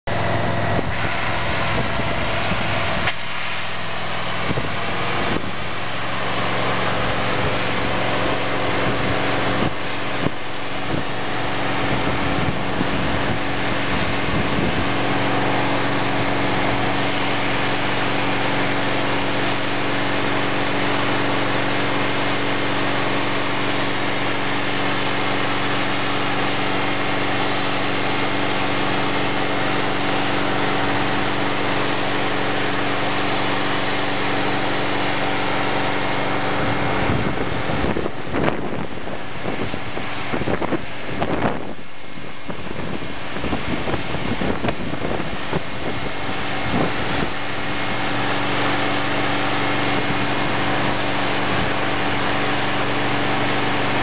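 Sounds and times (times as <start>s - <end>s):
hose water stream hissing: 0.1s - 54.0s
truck engine running under load: 0.1s - 54.0s.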